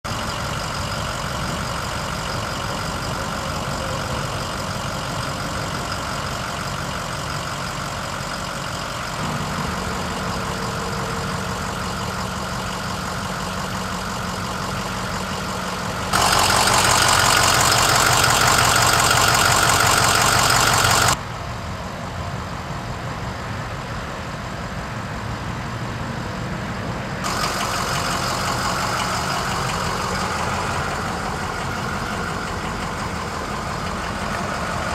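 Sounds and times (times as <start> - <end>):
truck engine idling: 0.0 - 25.5, 27.2 - 34.9.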